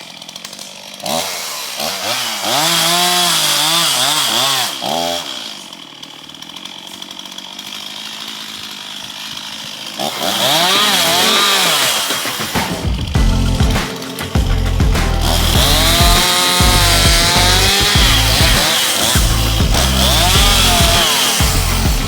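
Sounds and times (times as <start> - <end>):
chainsaw cutting into tree: 0.0 - 22.0.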